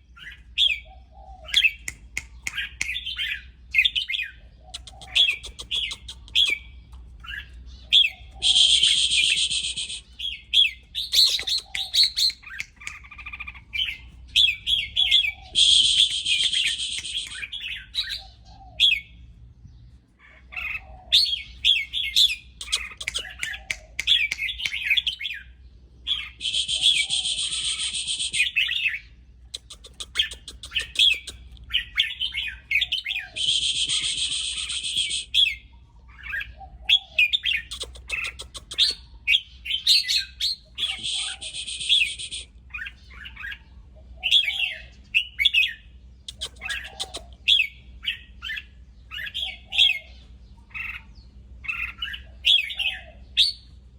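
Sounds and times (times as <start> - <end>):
bird chirping and warbling: 0.0 - 53.9
bird harsh rasping calls: 0.2 - 19.0, 20.2 - 25.4, 26.1 - 53.7.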